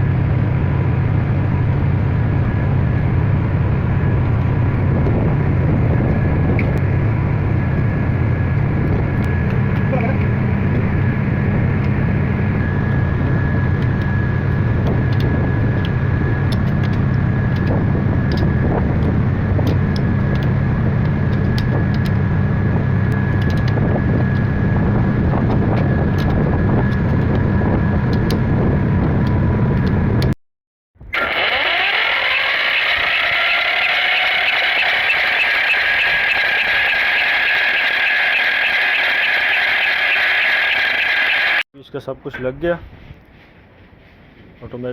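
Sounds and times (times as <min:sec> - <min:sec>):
engine rumbling: 0:00.0 - 0:30.4, 0:31.0 - 0:44.9.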